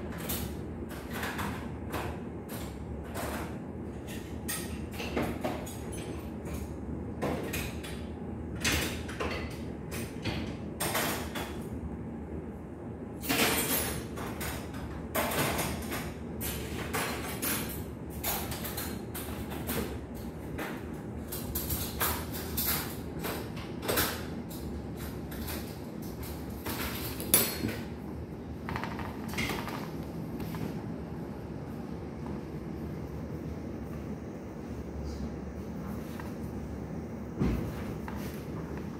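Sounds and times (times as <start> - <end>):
low background noise: 0.0 - 38.9.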